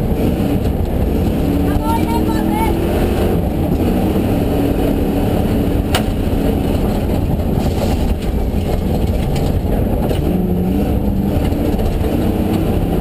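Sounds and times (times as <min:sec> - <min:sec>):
car engine running at speed: 0:00.0 - 0:13.0
road noise: 0:00.0 - 0:13.0.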